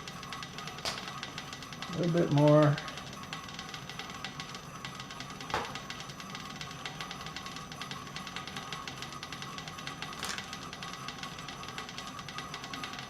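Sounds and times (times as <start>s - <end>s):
rapid ticking: 0.0s - 13.0s.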